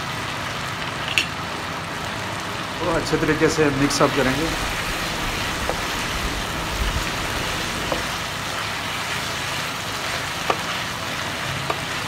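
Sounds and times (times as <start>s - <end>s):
sauce sizzling in frying pan: 0.0s - 12.0s.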